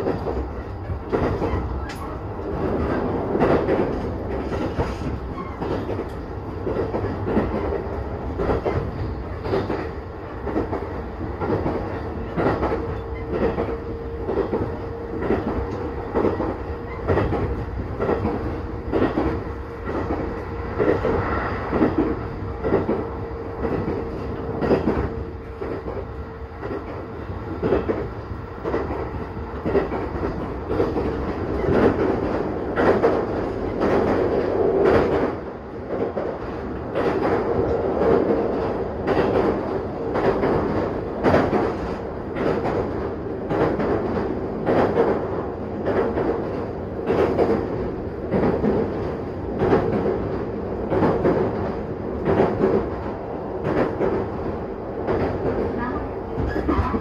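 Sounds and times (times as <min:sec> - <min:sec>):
train running gear rumbling: 0:00.0 - 0:57.0.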